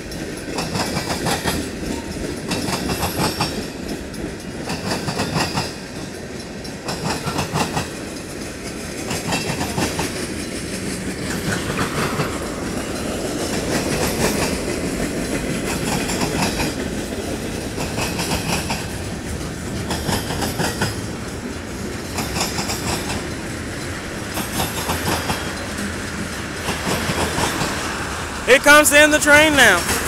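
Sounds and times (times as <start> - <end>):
wheels clacking over rail joints: 0.0 - 28.5, 29.3 - 30.0
steel wheels rumbling on rail: 0.0 - 30.0.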